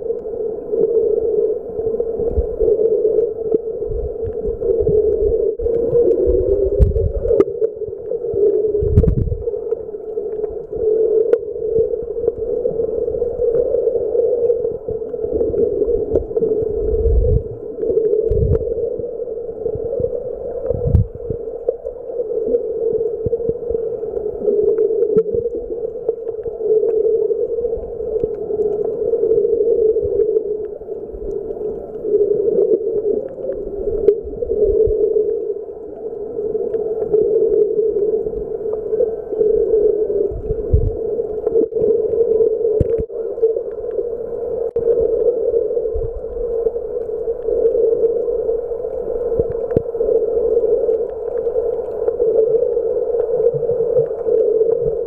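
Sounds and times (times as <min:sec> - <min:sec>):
muffled underwater drone: 0:00.0 - 0:55.0.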